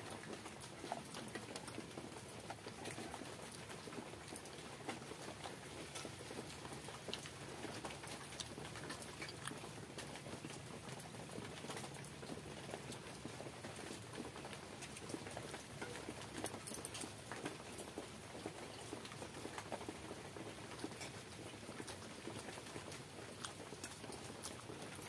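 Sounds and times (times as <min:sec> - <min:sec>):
chewing and mouth smacks: 0:00.1 - 0:25.0.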